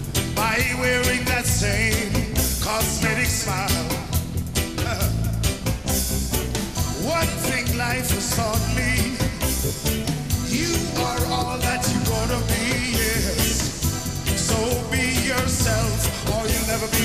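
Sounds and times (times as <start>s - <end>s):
reggae band playing: 0.0s - 17.0s
man singing lead: 0.3s - 5.6s, 6.9s - 17.0s.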